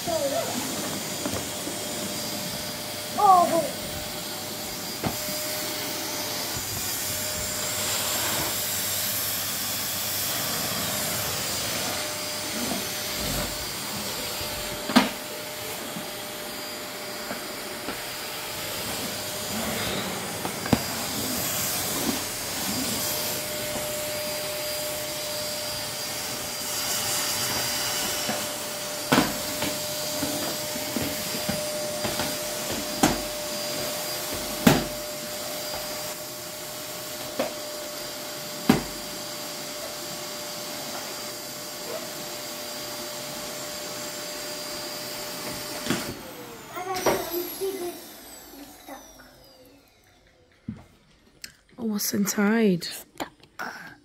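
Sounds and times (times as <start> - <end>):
vacuum cleaner whining: 0.0 - 52.7.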